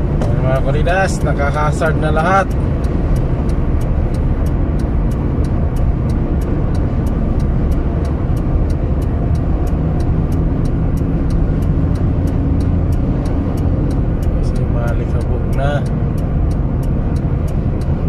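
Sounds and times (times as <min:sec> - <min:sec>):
car interior road rumble: 0:00.0 - 0:18.0
faint high ticking: 0:00.4 - 0:18.0.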